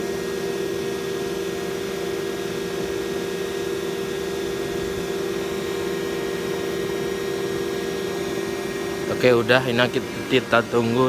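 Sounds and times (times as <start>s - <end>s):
gas furnace humming and rushing: 0.0s - 11.0s.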